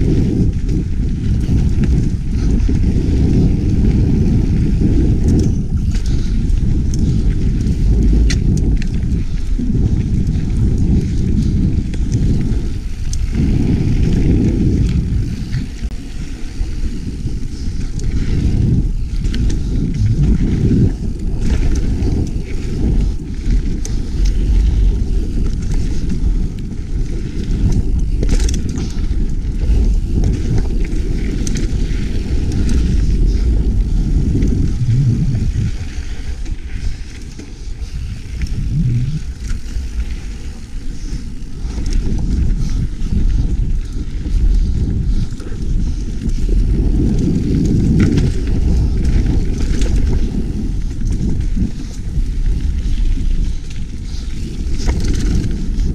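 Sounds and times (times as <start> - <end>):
bike rattling and clicking: 0.0 - 55.9
wind and tyres on dirt trail: 0.0 - 55.9.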